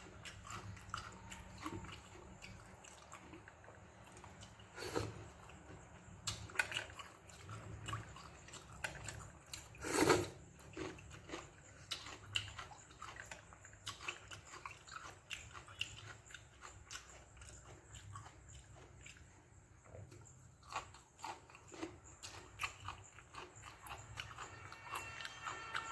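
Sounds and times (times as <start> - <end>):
person chewing food: 0.0 - 25.9.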